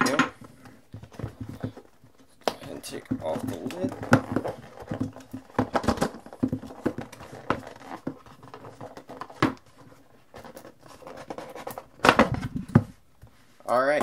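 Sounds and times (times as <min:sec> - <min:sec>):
fingers tapping cardboard: 0:00.2 - 0:13.0.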